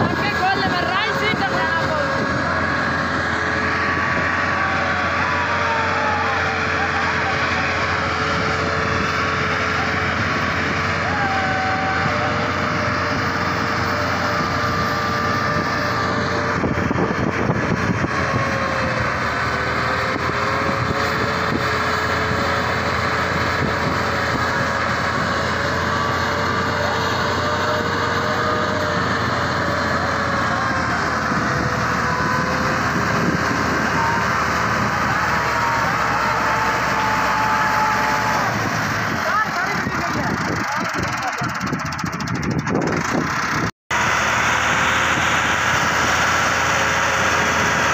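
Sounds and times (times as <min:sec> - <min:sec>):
tractor engine running under load: 0:00.0 - 0:47.9.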